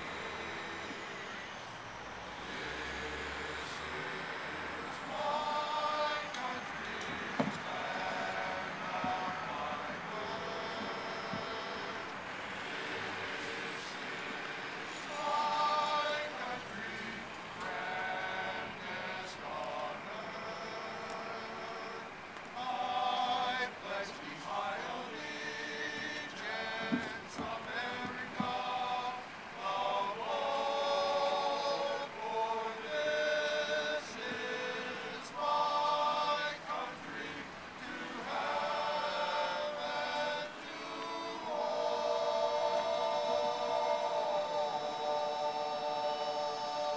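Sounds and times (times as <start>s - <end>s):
men's chorus singing in harmony: 0.0s - 46.9s.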